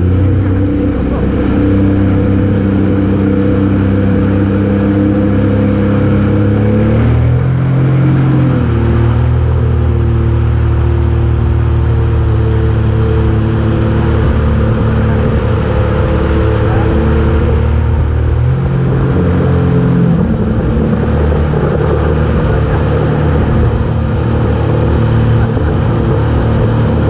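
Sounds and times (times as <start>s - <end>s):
motorboat engine running: 0.0s - 27.0s
rush of boat wake: 0.0s - 27.0s.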